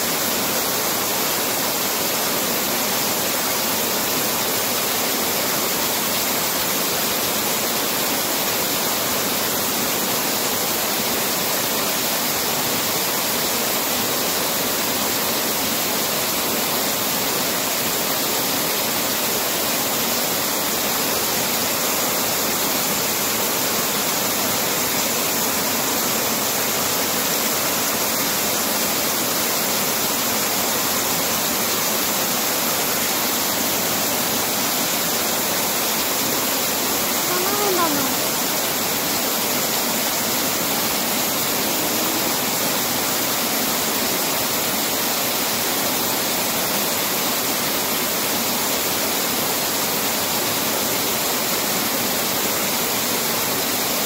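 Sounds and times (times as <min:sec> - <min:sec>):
waterfall over rocks: 0:00.0 - 0:54.0.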